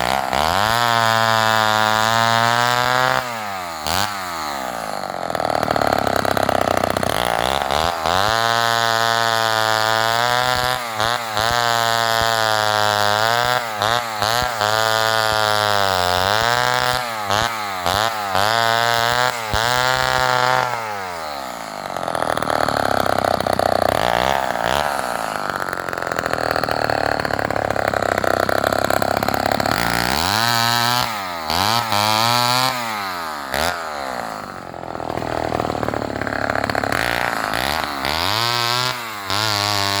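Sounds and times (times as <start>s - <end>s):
chainsaw revving: 0.0s - 40.0s.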